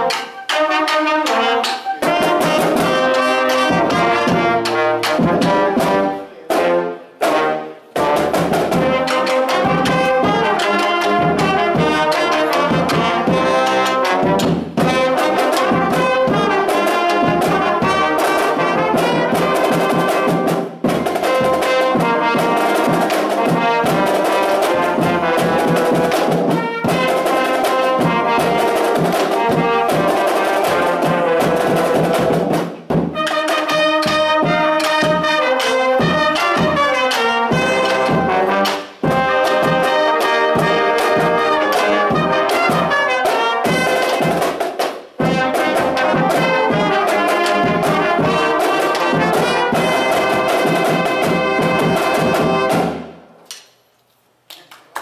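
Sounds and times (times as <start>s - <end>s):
marching band brass playing: 0.0s - 53.2s.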